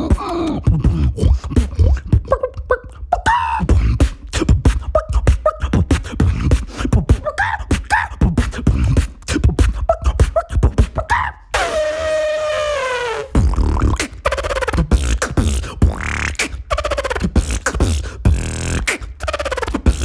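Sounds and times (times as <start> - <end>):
beatboxing: 0.0 - 20.0.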